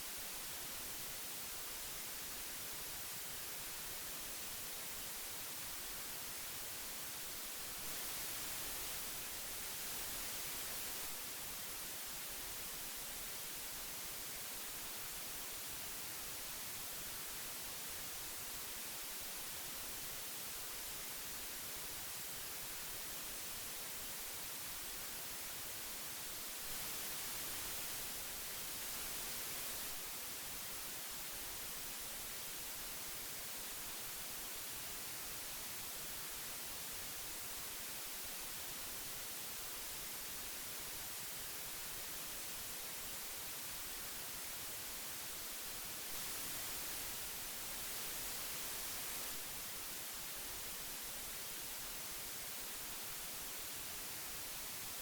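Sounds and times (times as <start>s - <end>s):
tape hiss: 0.0s - 55.0s.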